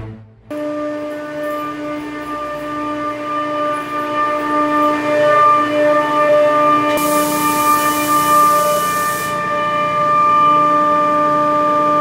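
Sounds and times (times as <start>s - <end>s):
chiller compressor whine: 0.0s - 12.0s.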